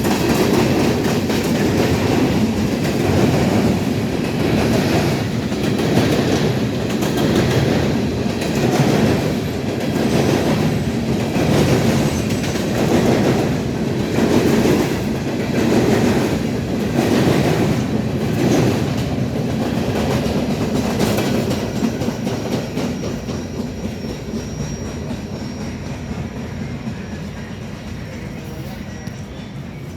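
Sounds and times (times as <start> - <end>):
train wheels clattering over rail joints: 0.0 - 28.5.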